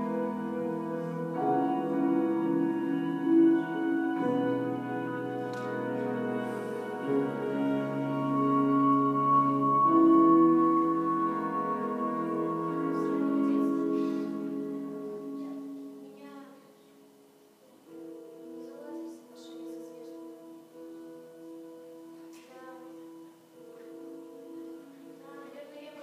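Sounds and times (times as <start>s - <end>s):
instrumental music with held chords: 0.0s - 26.0s.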